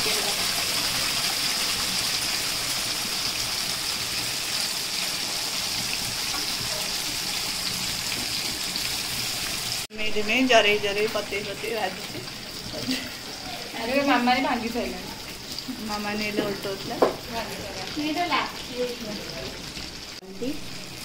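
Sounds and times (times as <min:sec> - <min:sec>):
paste sizzling in hot oil: 0:00.0 - 0:09.9, 0:10.9 - 0:21.0.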